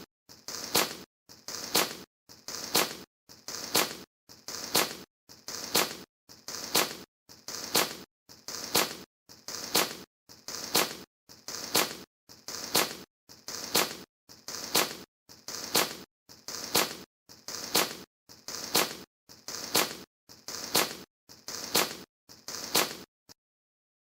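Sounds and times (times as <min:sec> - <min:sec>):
sharp firework crack: 0:00.6 - 0:23.1.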